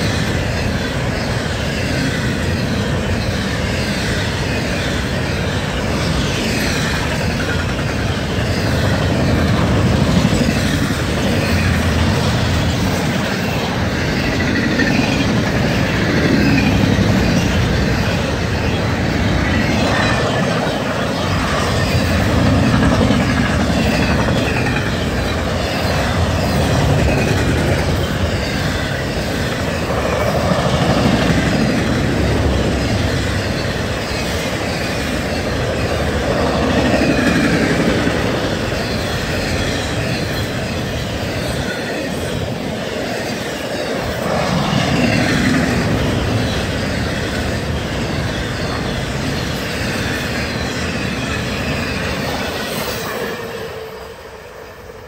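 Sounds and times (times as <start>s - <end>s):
freight train wheels rolling: 0.0s - 55.0s.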